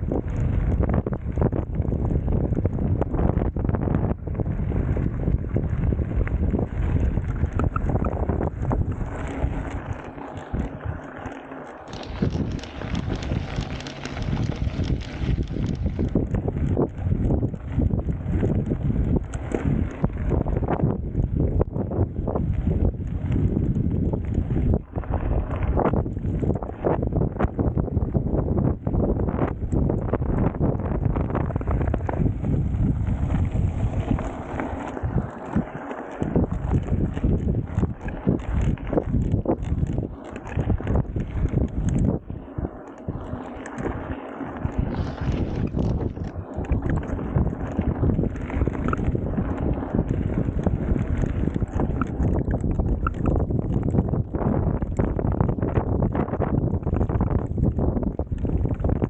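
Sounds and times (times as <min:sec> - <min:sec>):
bike rattling over bumps: 0:00.0 - 0:59.0
bike tyre rumble: 0:00.0 - 0:59.0
wind buffeting microphone: 0:00.0 - 0:59.0.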